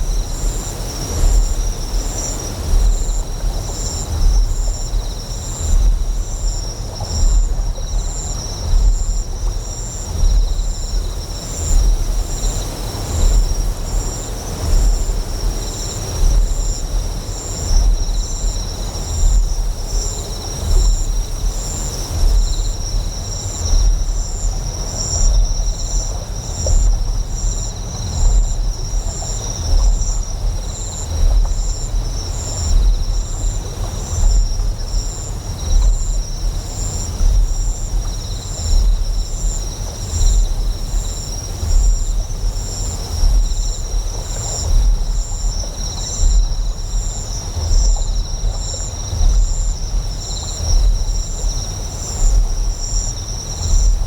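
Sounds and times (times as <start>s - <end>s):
high insect chirping: 0.0s - 54.0s.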